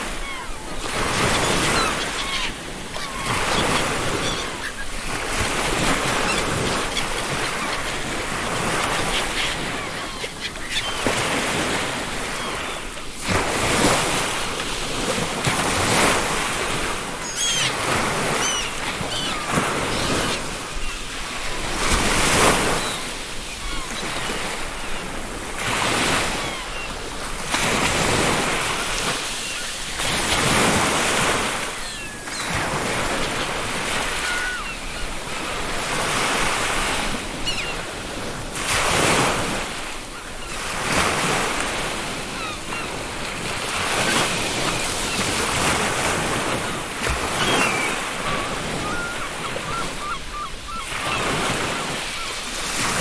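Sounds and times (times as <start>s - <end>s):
ocean waves breaking: 0.0s - 53.0s
seagulls calling: 0.0s - 53.0s.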